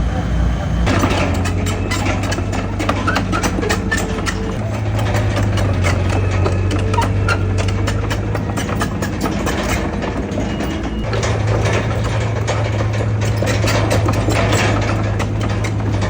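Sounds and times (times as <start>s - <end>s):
heavy diesel engine running: 0.0s - 16.0s
metal clanks and clicks: 0.8s - 16.0s.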